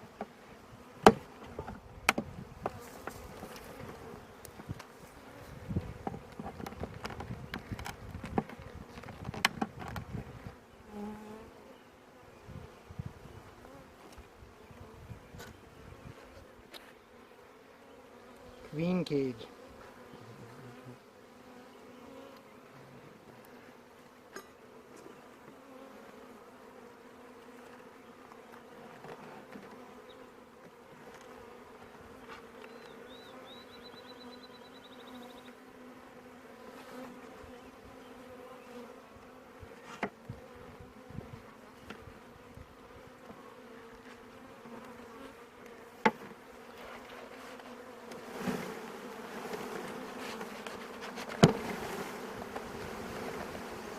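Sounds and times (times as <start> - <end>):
honeybees buzzing: 0.0 - 53.9.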